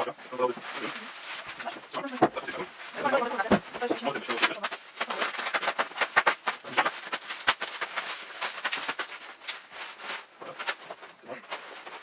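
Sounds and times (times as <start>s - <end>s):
plastic packaging crinkling: 0.3s - 12.0s.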